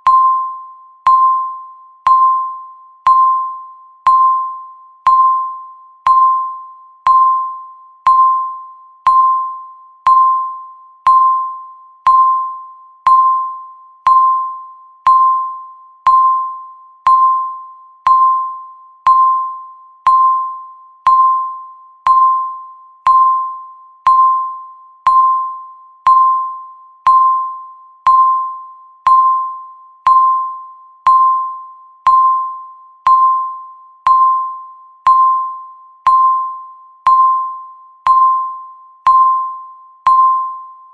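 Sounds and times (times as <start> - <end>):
timer bell-like ping: 0.0 - 40.9.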